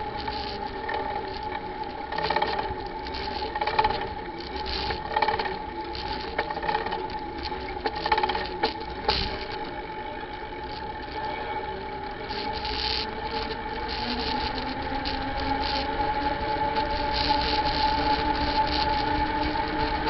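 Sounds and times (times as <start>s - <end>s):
steady high whine: 0.0s - 20.0s.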